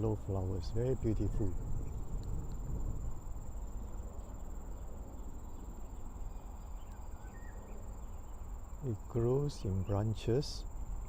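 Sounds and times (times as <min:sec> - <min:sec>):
crickets droning: 0:00.0 - 0:11.0
low background rumble: 0:00.0 - 0:11.0.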